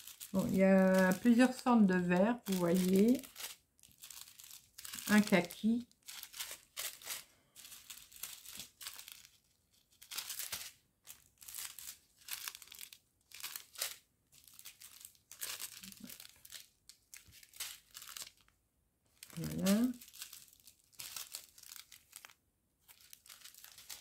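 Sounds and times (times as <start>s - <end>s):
plastic sachets crinkling: 0.0s - 24.0s.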